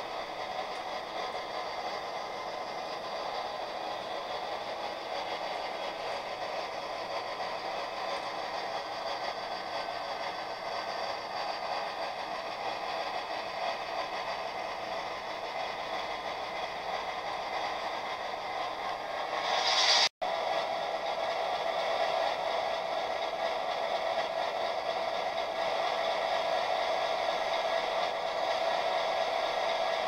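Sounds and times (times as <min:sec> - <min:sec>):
model locomotives whirring: 0:00.0 - 0:30.0.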